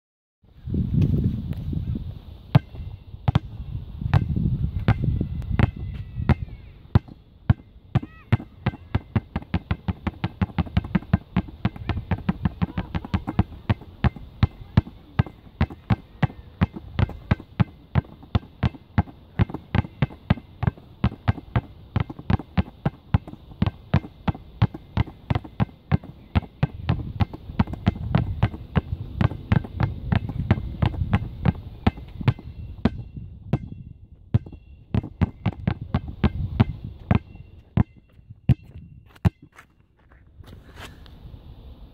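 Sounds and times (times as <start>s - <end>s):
basketballs bouncing on asphalt: 2.5s - 40.1s.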